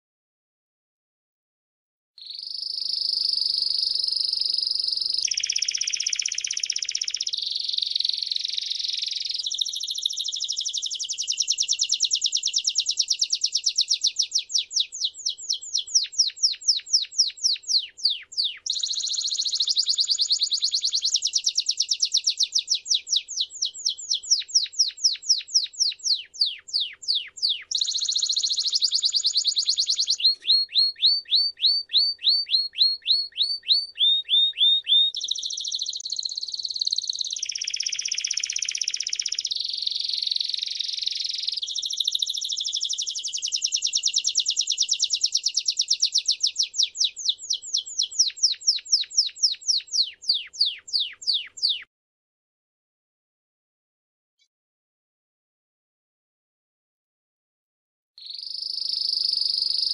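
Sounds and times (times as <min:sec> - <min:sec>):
canary singing rapid trills: 0:02.2 - 0:51.9, 0:58.2 - 0:59.9.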